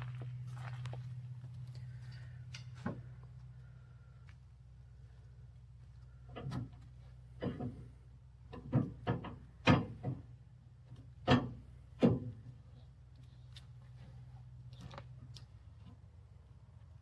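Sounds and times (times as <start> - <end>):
steady low engine hum: 0.0 - 17.0.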